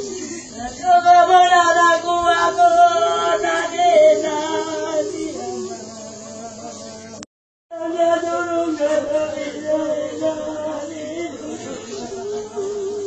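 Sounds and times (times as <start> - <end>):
singing in long wavering notes: 0.0 - 13.0.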